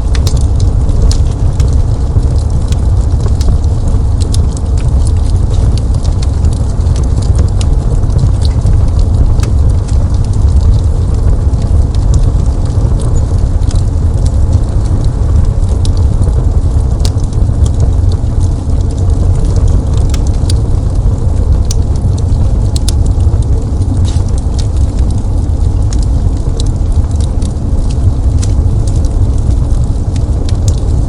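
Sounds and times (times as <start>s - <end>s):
fire crackling and popping: 0.0s - 31.0s
low fire rumble: 0.0s - 31.0s.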